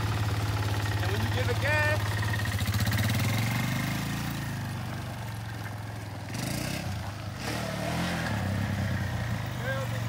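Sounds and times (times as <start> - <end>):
atv engine pulling away: 0.0 - 10.0.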